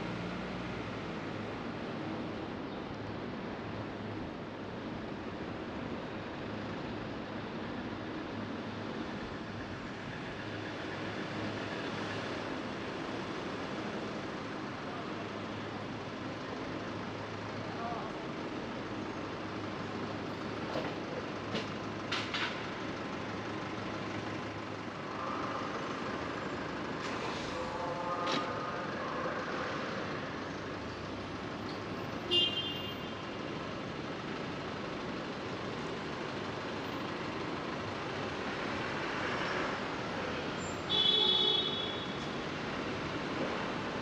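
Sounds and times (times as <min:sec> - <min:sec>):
road and engine noise: 0:00.0 - 0:44.0.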